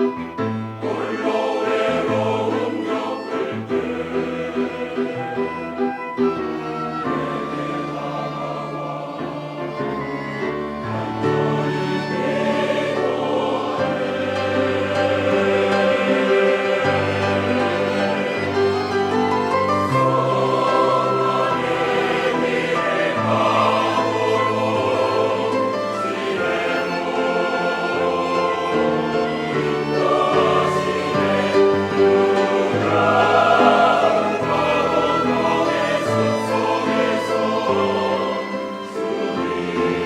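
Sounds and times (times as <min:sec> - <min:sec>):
choir singing a hymn: 0:00.0 - 0:40.0.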